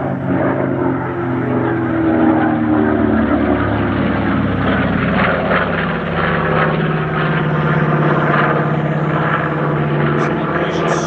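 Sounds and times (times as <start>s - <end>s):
propeller plane engines flying past: 0.0s - 11.0s.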